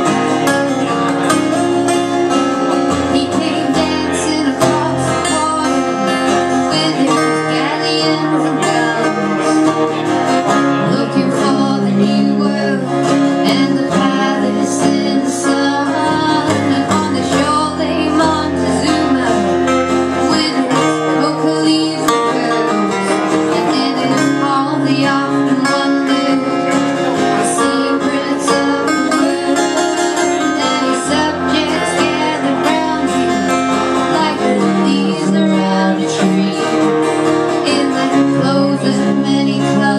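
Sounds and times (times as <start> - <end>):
plucked acoustic strings: 0.0 - 39.9.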